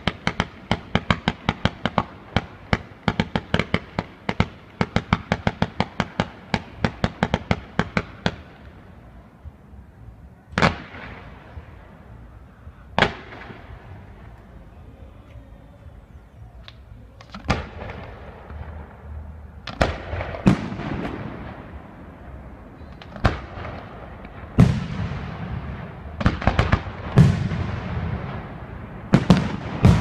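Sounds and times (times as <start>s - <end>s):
fireworks bangs: 0.0s - 8.7s, 10.5s - 12.2s, 13.0s - 15.3s, 16.6s - 30.0s.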